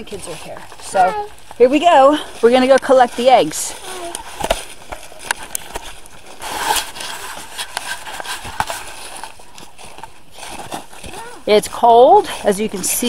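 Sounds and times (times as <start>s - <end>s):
footsteps and scuffs outdoors: 0.0s - 13.0s
rustle: 0.0s - 13.0s.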